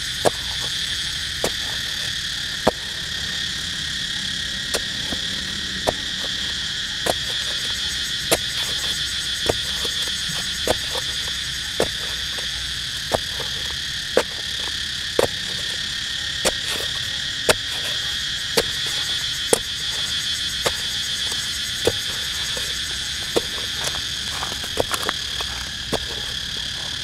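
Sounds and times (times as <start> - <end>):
high-pitched insect drone: 0.0 - 27.0
knife stabbing into dry soil: 0.1 - 3.5, 4.6 - 27.0.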